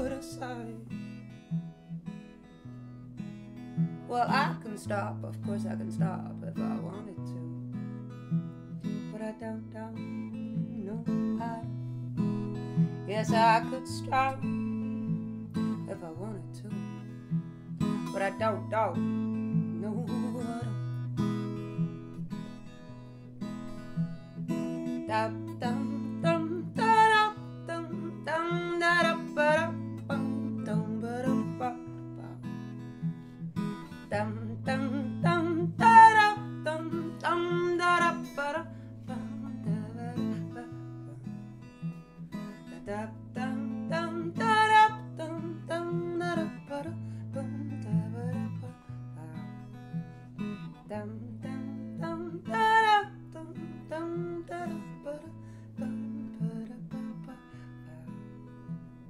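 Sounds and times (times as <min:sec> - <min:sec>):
woman singing wordless phrases: 0:00.0 - 0:01.0, 0:04.0 - 0:08.1, 0:08.7 - 0:11.8, 0:12.4 - 0:21.2, 0:24.8 - 0:32.8, 0:33.9 - 0:58.7
acoustic guitar strumming: 0:00.0 - 0:59.0.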